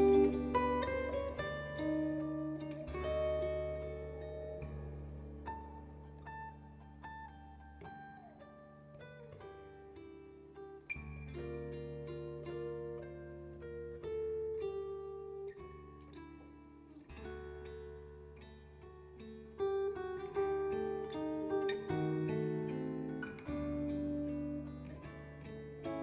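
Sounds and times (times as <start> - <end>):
jazz acoustic guitar: 0.0 - 26.0.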